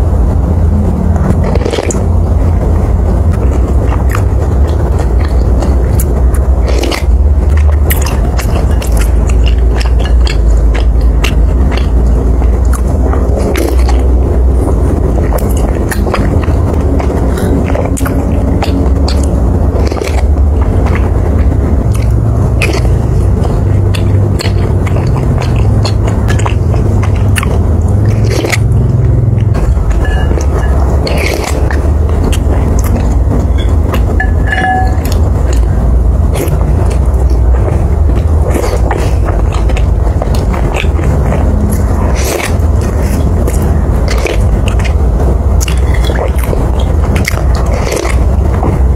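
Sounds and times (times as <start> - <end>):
low rumble: 0.0 - 48.9
steady low hum: 0.0 - 48.9
close chewing with wet smacks: 1.2 - 48.9.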